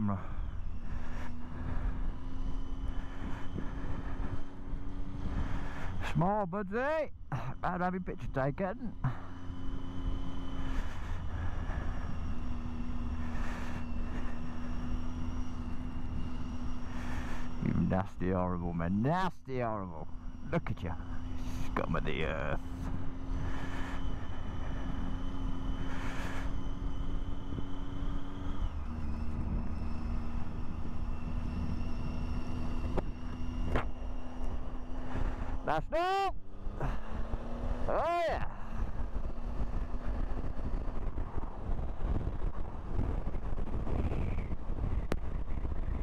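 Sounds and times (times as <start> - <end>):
motorcycle engine droning: 0.0 - 46.0
wind and road noise: 0.0 - 46.0.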